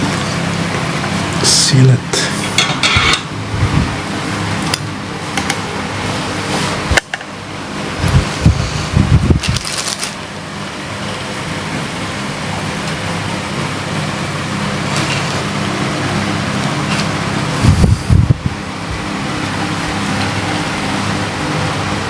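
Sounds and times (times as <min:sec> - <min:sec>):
electric fan whirring: 0:00.0 - 0:22.0.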